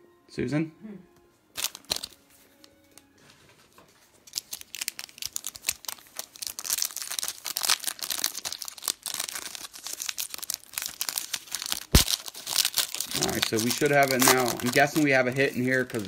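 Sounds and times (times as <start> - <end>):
plastic wrapping crinkling and tearing: 1.6 - 3.1, 3.9 - 16.0.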